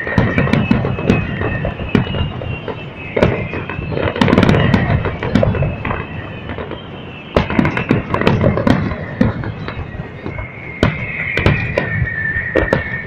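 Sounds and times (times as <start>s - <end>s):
firework high whistle: 0.0s - 13.0s
fireworks bangs and crackles: 0.0s - 13.0s.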